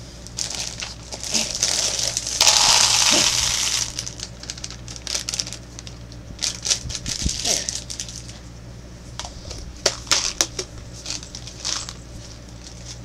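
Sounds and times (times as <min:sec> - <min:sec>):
plastic bag crinkling: 0:00.3 - 0:08.4, 0:09.4 - 0:13.0.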